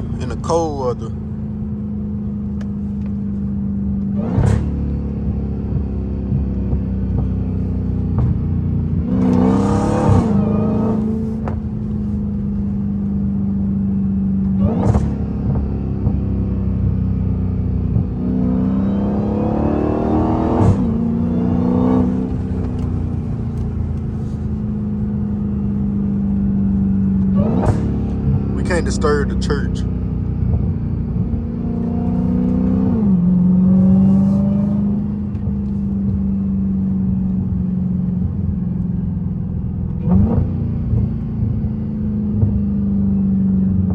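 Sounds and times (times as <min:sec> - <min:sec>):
car engine droning: 0:00.0 - 0:43.9.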